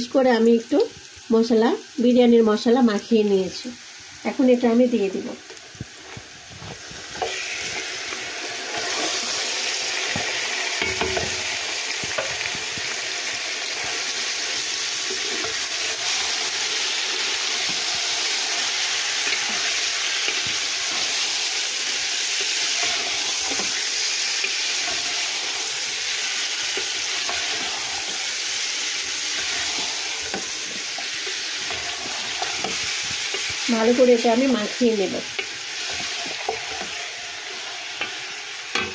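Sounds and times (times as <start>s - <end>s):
chicken sizzling in oil: 0.0s - 38.9s
wooden spoon stirring and scraping: 5.8s - 38.9s.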